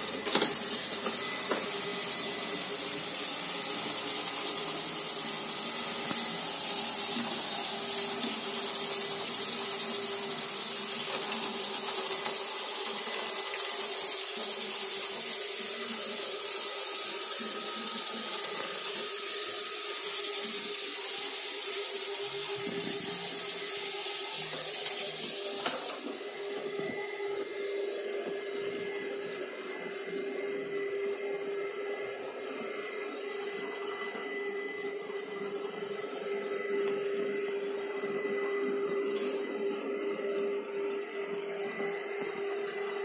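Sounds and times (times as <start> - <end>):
robot vacuum running: 0.0 - 43.0.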